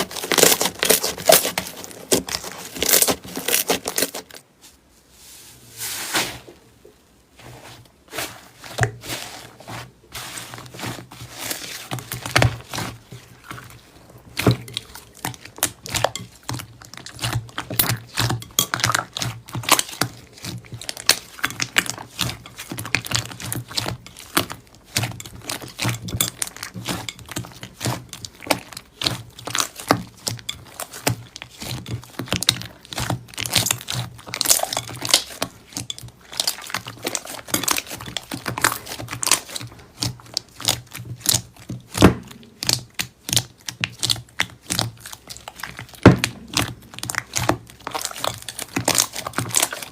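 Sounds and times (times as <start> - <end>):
slime squelching and crackling: 0.0 - 4.6, 5.8 - 49.9.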